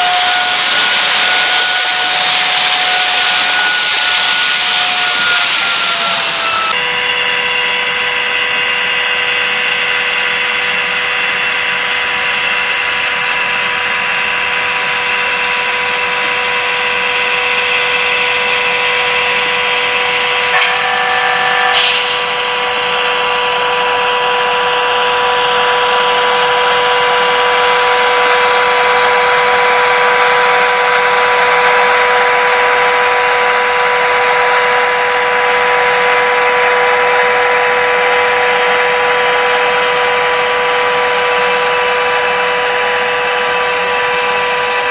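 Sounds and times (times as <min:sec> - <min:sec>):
small electric motor whine: 0:00.0 - 0:44.9.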